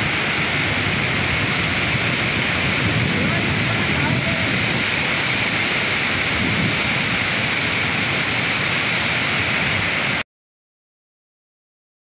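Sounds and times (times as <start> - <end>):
river rushing: 0.0 - 10.2.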